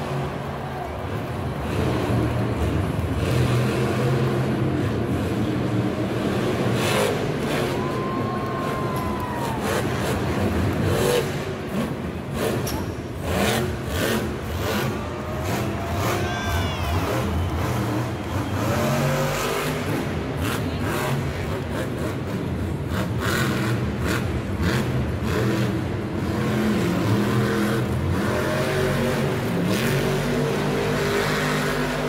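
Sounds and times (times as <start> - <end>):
truck engine revving hard: 1.4 - 32.0.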